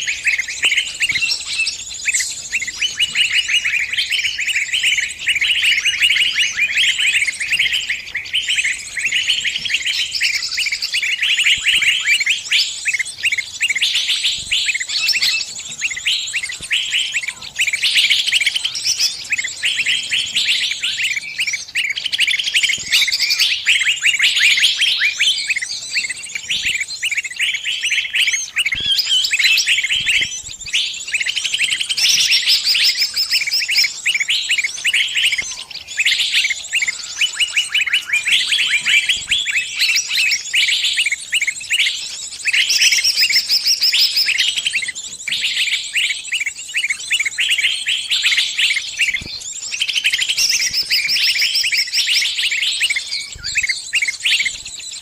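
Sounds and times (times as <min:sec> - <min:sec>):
bird distress calls: 0:00.0 - 0:55.0.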